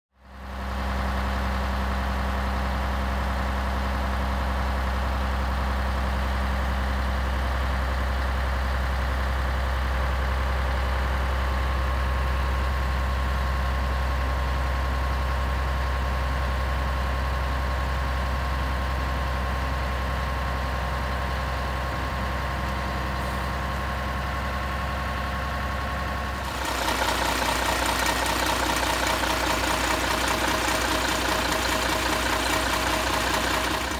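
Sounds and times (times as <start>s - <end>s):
diesel truck engine idling: 0.2s - 33.9s.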